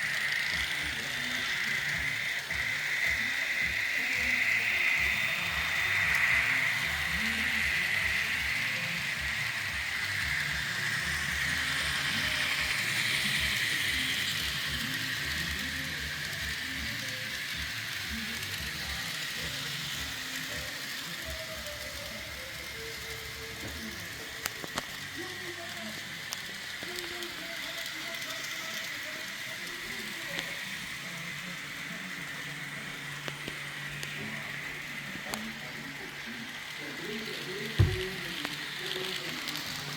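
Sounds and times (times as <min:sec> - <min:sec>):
model train motor whir: 0:00.0 - 0:39.9.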